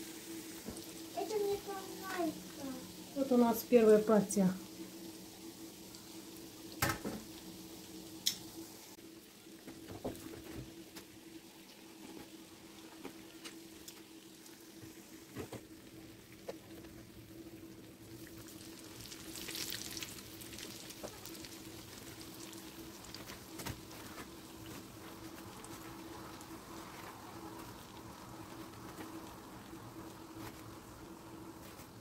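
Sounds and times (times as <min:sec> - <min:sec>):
food deep-frying in hot oil: 0:00.0 - 0:32.0.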